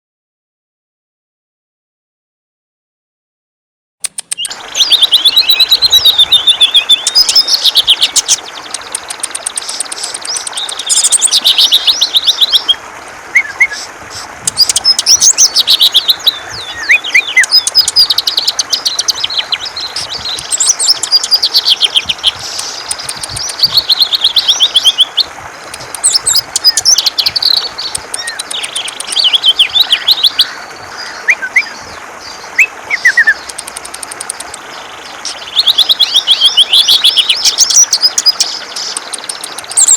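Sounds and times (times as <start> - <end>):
bird singing rapid high trills: 4.1 - 39.9.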